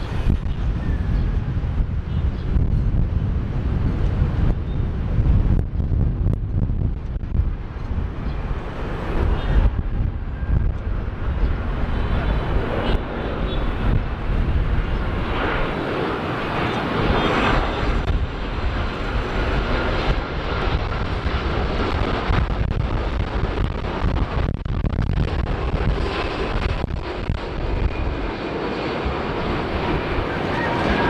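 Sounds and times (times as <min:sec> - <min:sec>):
jet engines low rumble: 0:00.0 - 0:31.0.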